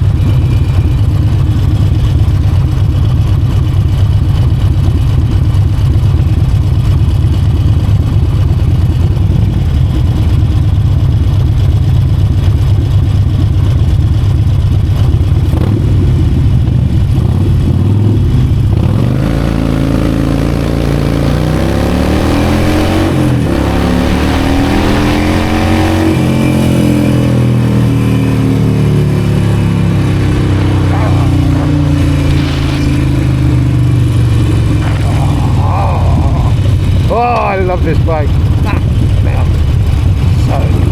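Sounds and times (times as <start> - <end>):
motorcycle engine rumbling and revving: 0.0 - 40.9.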